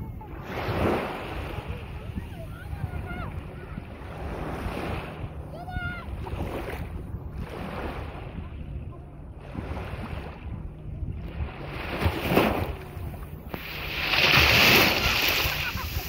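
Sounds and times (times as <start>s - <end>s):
small waves lapping: 0.0s - 16.0s
wind on microphone: 0.0s - 16.0s.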